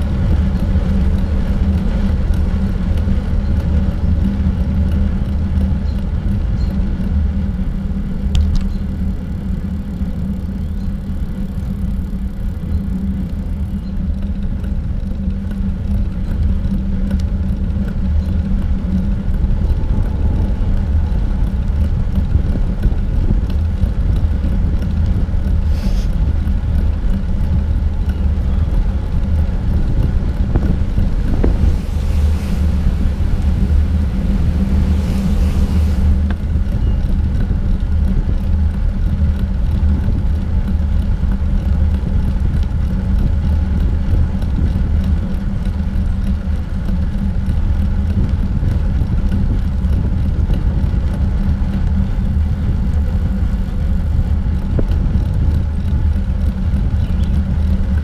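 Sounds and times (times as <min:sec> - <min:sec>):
wind and road rumble: 0:00.0 - 0:58.0.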